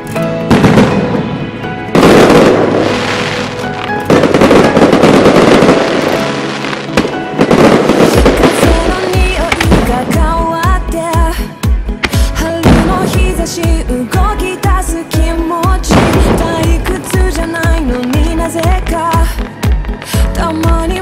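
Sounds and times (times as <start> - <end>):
fireworks crackling volleys: 0.0 - 11.4, 12.0 - 21.0
music: 0.0 - 21.0.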